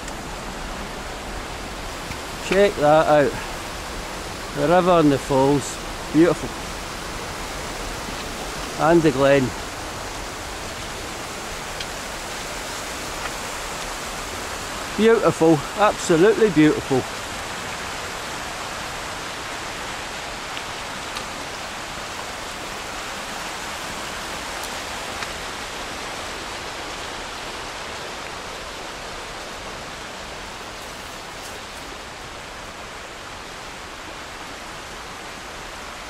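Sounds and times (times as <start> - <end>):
river white water rushing: 0.0 - 36.0.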